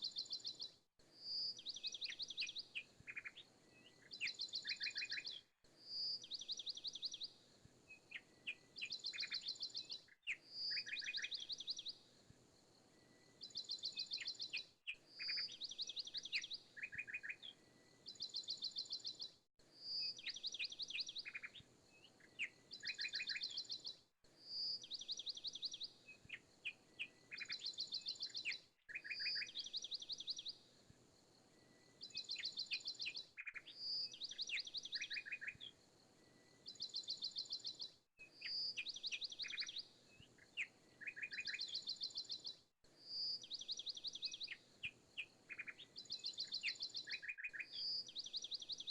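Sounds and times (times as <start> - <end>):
small songbirds chirping and trilling: 0.0 - 48.9.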